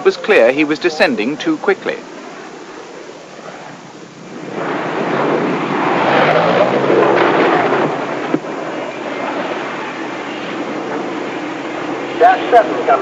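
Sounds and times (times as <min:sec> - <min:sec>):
airplane rushing overhead: 0:00.0 - 0:13.0.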